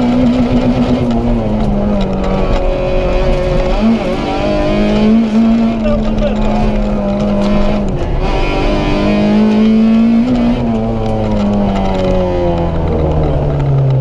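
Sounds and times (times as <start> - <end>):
car engine revving from inside: 0.0 - 13.4.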